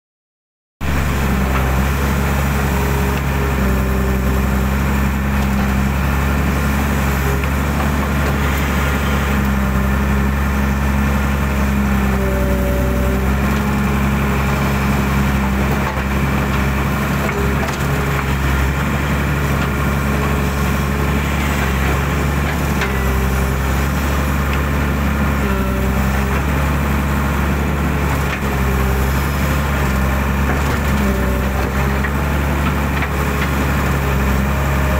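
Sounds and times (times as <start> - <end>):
excavator diesel engine running: 0.8 - 34.9.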